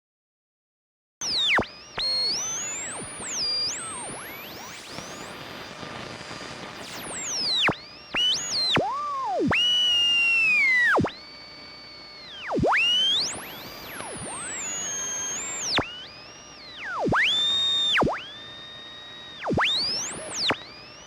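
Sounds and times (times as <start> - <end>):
radio tuning whistles: 1.2 - 21.0
radio static hiss: 1.3 - 21.0.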